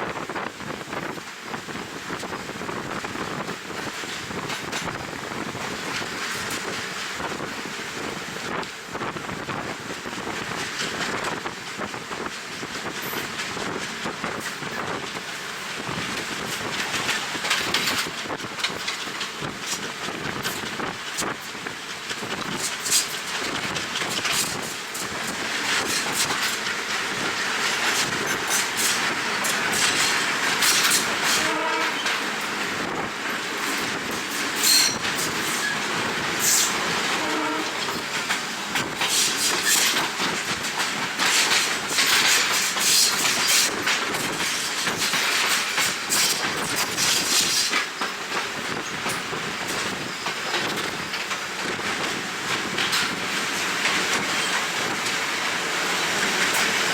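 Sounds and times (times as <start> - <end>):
wind buffeting microphone: 0.0 - 56.9
train wheels clattering: 10.0 - 56.9.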